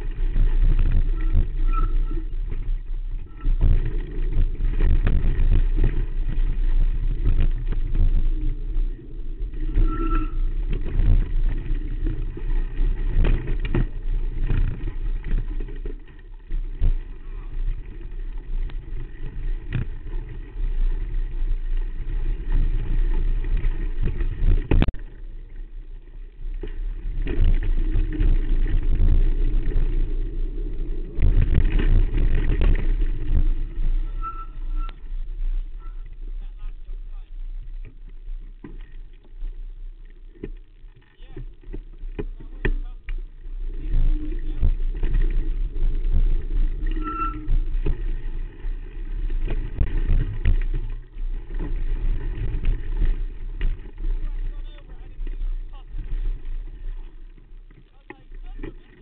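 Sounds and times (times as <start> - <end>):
bike tyres rumbling over rocky trail: 0.0 - 59.0.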